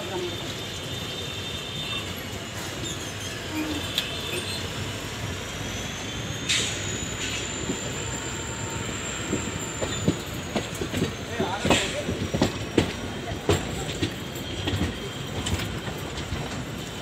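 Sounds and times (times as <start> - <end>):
train coach rumbling on rails: 0.0 - 17.0
high wheel squeal: 1.2 - 17.0.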